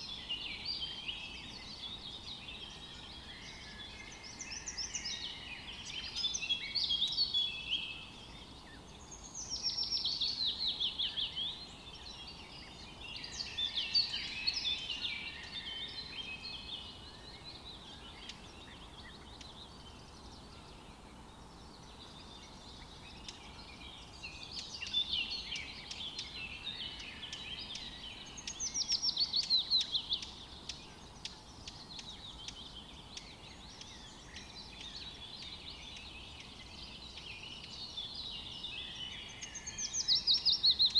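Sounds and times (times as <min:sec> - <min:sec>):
birdsong: 0:00.0 - 0:40.9
faint background hiss: 0:00.0 - 0:40.9.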